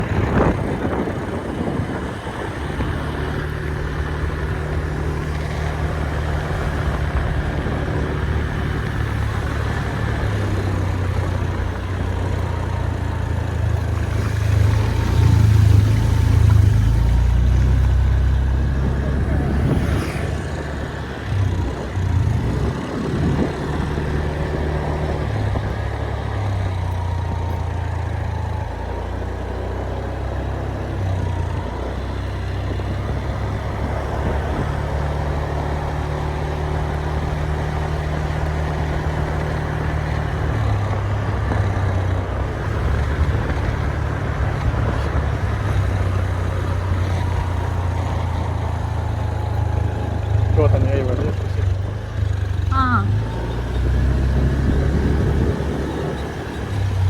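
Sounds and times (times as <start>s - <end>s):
motor vehicle rumbling: 0.0s - 57.0s.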